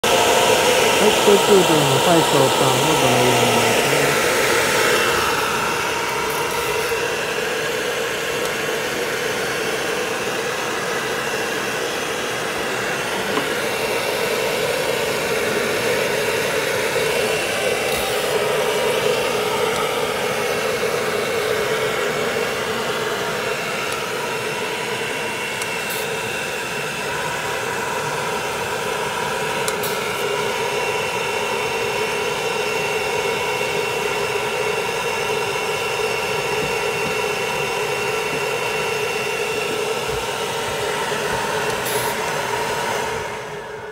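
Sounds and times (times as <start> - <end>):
hair dryer blowing: 0.0 - 43.9.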